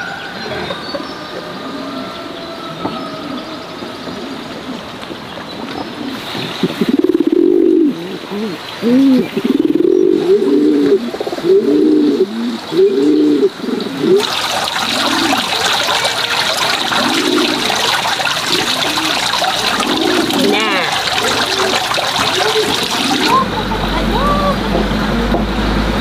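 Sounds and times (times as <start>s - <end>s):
pigeons cooing: 0.0s - 23.5s.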